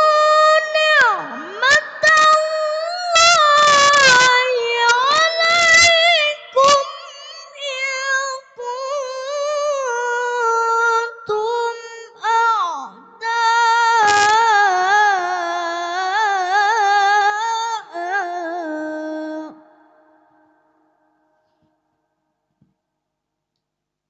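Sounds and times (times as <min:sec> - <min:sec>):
boy reciting melodically: 0:00.0 - 0:20.0.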